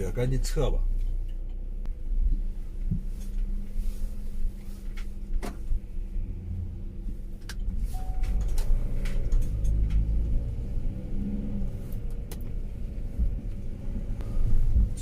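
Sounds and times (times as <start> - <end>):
van engine rumble: 0.0 - 15.0.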